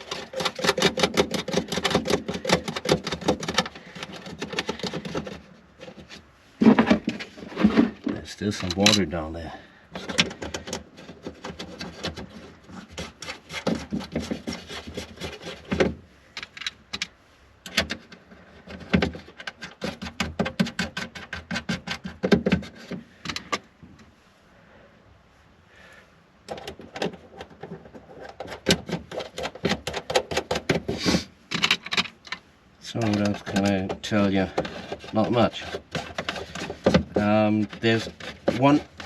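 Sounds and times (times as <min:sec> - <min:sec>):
sharp clicks and knocks: 0:00.0 - 0:09.1, 0:10.0 - 0:24.1, 0:26.5 - 0:39.0.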